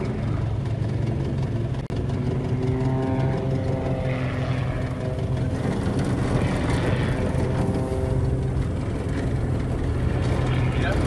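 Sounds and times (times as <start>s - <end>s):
plane engine droning overhead: 0.0s - 11.0s.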